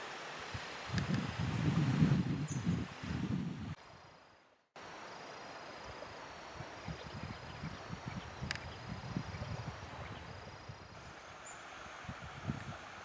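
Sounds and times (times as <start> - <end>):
steady hiss: 0.0 - 13.0
wind gusting against microphone: 0.4 - 4.1, 5.8 - 13.0.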